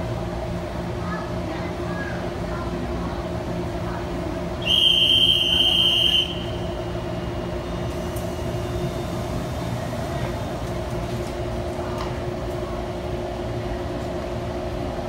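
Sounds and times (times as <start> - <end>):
train humming at platform: 0.0 - 15.0.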